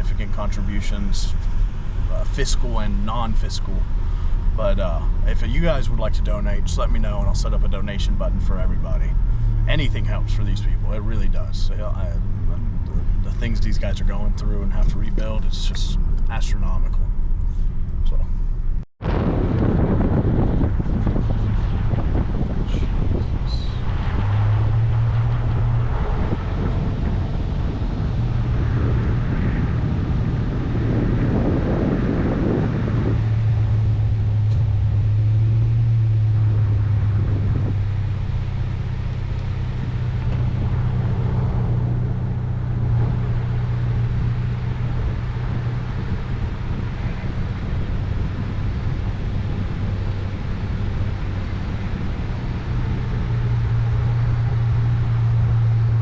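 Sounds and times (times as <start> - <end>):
road noise: 0.0 - 56.0
vehicle engine hum: 0.0 - 56.0.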